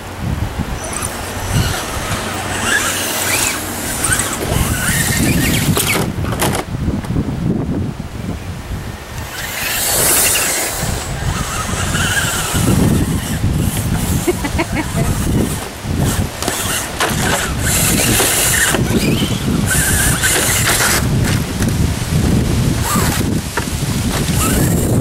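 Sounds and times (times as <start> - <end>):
electric motor whine: 0.0 - 6.7, 9.1 - 25.0
wind buffeting microphone: 0.0 - 25.0.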